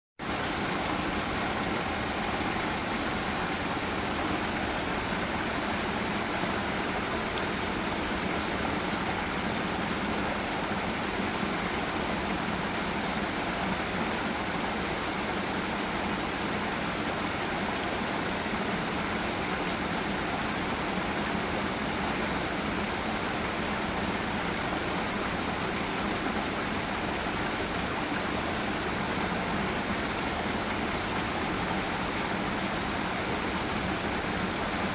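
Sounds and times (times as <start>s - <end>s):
water rushing: 0.2s - 34.9s.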